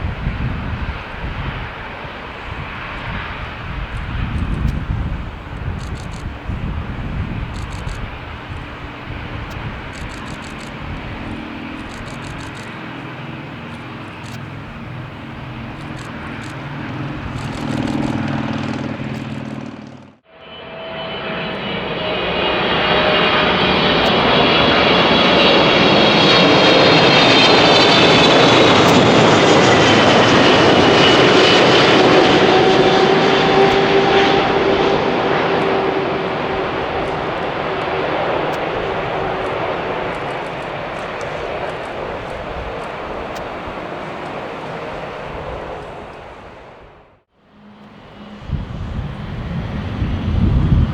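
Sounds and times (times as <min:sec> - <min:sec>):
jet engines humming: 0:00.0 - 0:50.9
jet passing close: 0:00.0 - 0:50.9.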